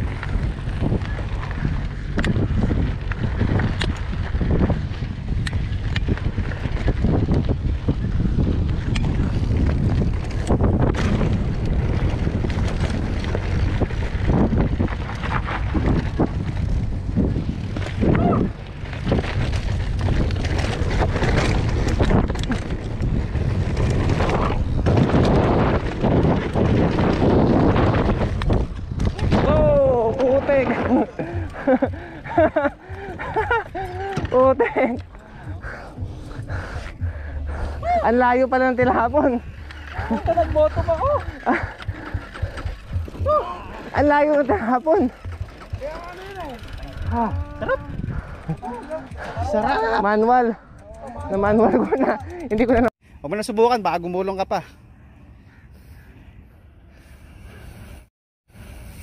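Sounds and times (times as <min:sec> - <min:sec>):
bike knocking and rattling: 0:00.0 - 0:52.9
wind buffeting microphone: 0:00.0 - 0:52.9.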